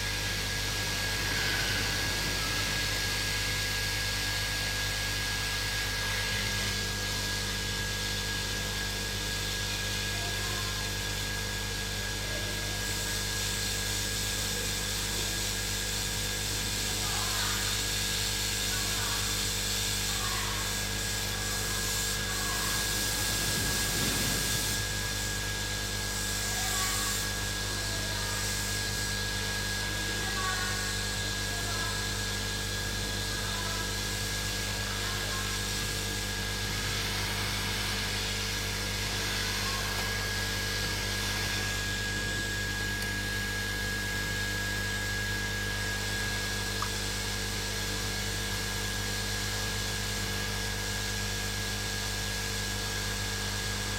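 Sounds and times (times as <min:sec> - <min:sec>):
hot-air station blowing: 0:00.0 - 0:53.9.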